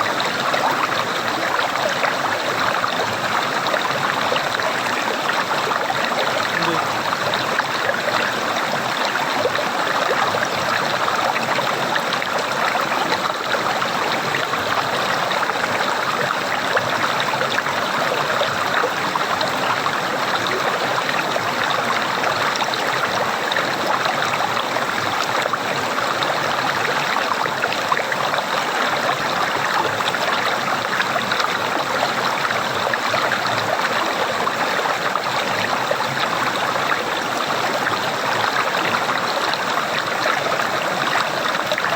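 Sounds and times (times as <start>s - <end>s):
running water gurgling: 0.0s - 41.9s.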